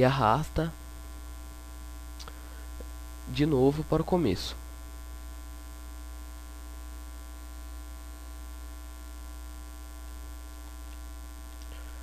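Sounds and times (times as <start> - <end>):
constant hiss: 0.0 - 12.0
electrical mains hum: 0.0 - 12.0.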